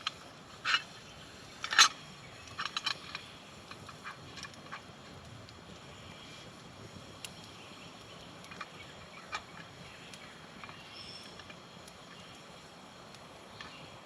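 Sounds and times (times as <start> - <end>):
campfire crackling: 0.0 - 14.0
fire popping: 0.0 - 14.0.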